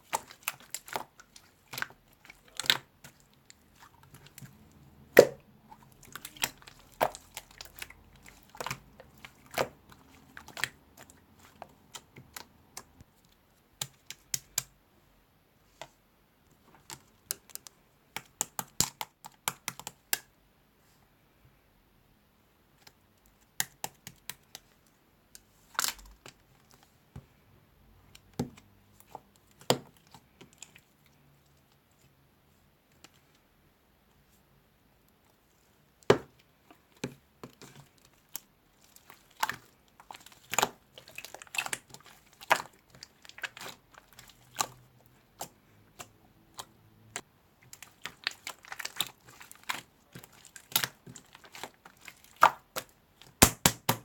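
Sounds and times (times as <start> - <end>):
clicks taps and crinkling: 0.0 - 14.8, 15.7 - 20.4, 22.8 - 27.4, 28.0 - 32.2, 35.0 - 54.0.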